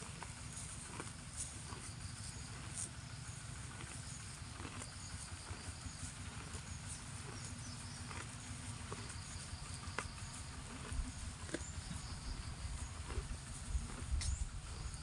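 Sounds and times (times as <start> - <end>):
cow tearing and chewing grass: 0.0 - 15.0.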